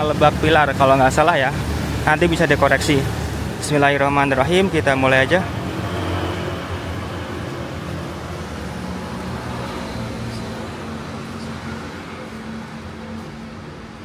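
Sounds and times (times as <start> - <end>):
city road traffic: 0.0 - 14.0.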